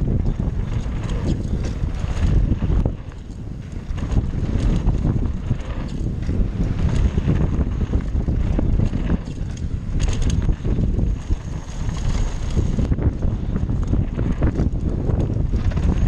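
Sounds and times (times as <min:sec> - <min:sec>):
bike rattling over bumps: 0:00.0 - 0:16.0
tyres on loose dirt: 0:00.0 - 0:16.0
wind buffeting microphone: 0:00.0 - 0:16.0.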